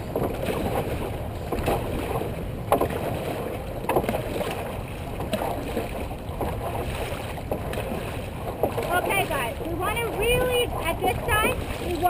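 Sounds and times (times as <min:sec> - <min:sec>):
paddles splashing through water: 0:00.0 - 0:12.0
wind noise on microphone: 0:00.0 - 0:12.0.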